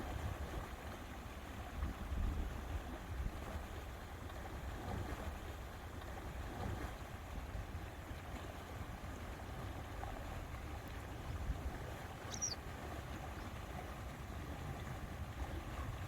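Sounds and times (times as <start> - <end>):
wind and water rushing: 0.0 - 16.0.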